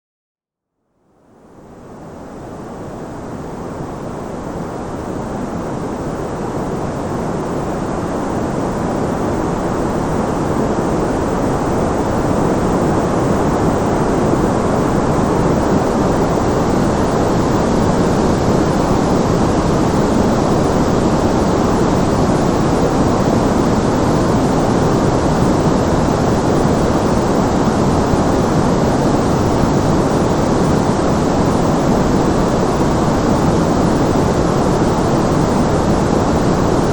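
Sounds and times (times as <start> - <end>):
white noise hiss: 0.8 - 36.9.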